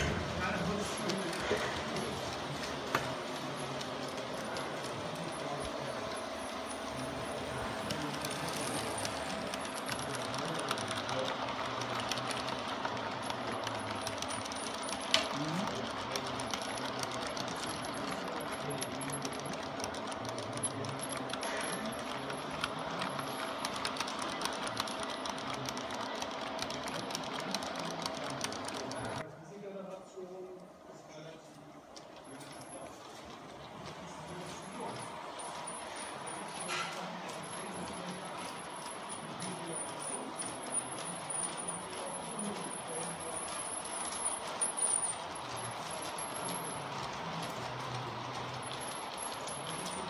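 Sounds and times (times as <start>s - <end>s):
wheels clicking on track: 0.0s - 29.2s, 31.8s - 50.0s
model train wagons rattling: 0.0s - 29.3s, 31.1s - 50.0s.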